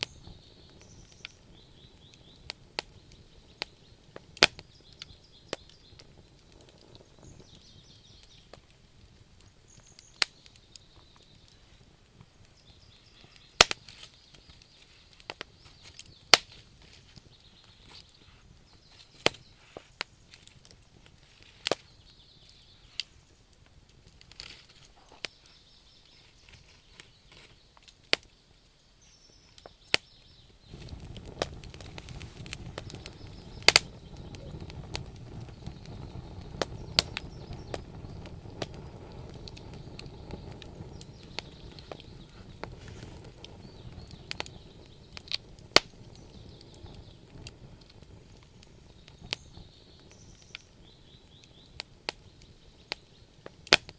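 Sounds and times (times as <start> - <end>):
campfire crackling and popping: 0.0 - 53.9
low rumble of burning: 0.0 - 53.9.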